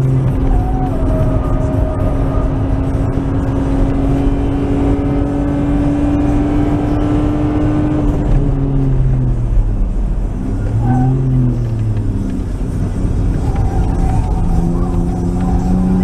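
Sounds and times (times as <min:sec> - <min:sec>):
car engine accelerating: 0:00.0 - 0:16.0
road and wind rumble: 0:00.0 - 0:16.0.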